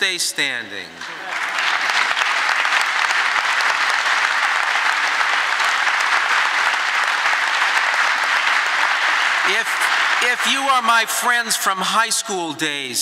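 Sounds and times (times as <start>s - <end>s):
audience applause: 1.1s - 11.8s.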